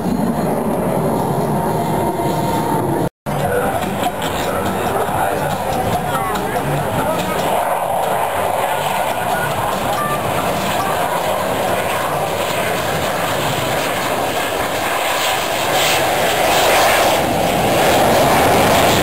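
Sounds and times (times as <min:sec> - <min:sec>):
plane flying past: 0:00.0 - 0:19.0.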